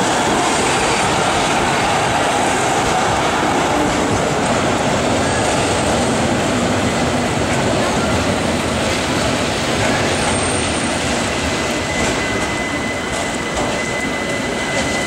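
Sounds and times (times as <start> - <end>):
rush of wet street noise: 0.0 - 15.0
tram approaching along rails: 0.0 - 15.0.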